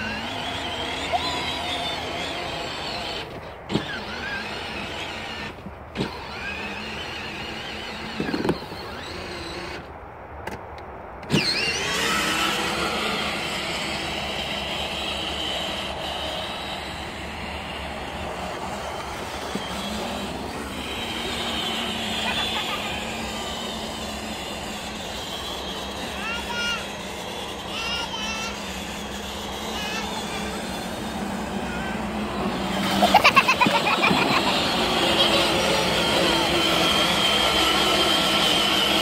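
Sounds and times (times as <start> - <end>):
electric toy car motor whining: 0.0 - 9.9, 11.2 - 39.0.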